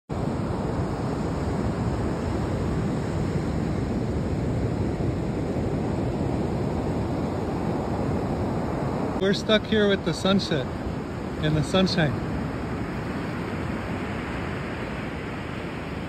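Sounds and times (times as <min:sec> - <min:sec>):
ocean surf: 0:00.1 - 0:16.0
wind: 0:00.1 - 0:16.0.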